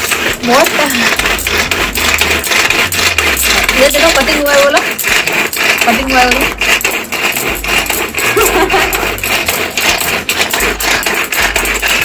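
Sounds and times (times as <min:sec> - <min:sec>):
pull cord chopper clattering: 0:00.0 - 0:12.0.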